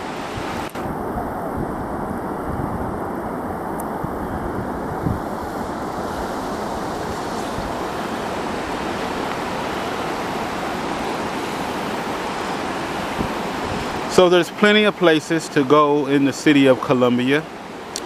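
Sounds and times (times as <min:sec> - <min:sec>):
river rapids rushing: 0:00.0 - 0:18.0.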